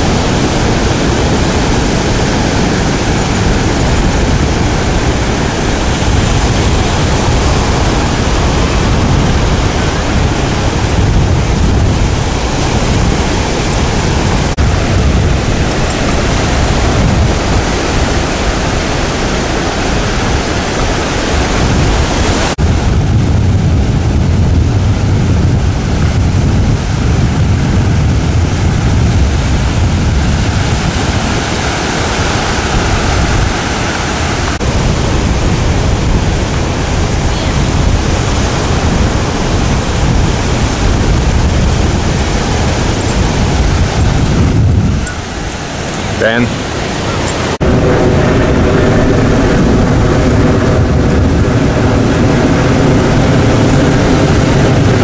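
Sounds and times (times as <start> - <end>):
surf washing onto beach: 0.0 - 55.0
wind buffeting microphone: 0.0 - 55.0.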